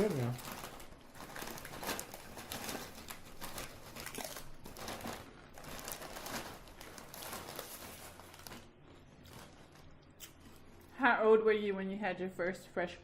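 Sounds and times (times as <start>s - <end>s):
food packaging crinkling: 0.0s - 10.9s.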